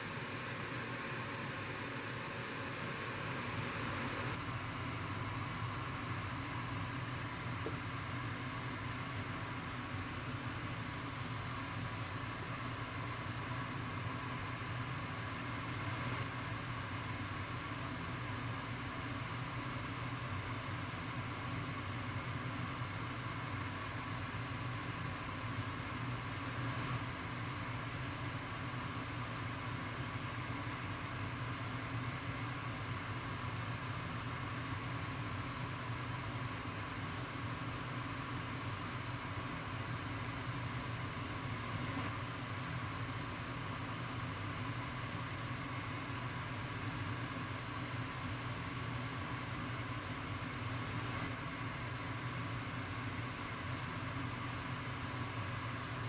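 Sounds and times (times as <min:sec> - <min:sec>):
machinery hum with hiss: 0:00.0 - 0:56.0.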